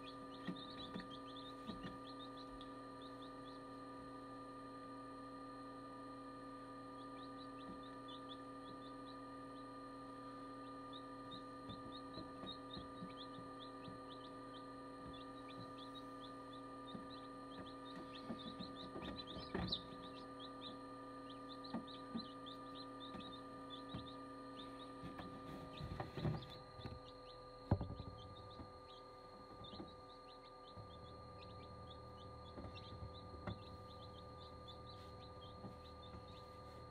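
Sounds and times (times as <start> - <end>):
chicks peeping: 0.0 - 3.8, 6.9 - 36.9
incubator hum: 0.0 - 36.9.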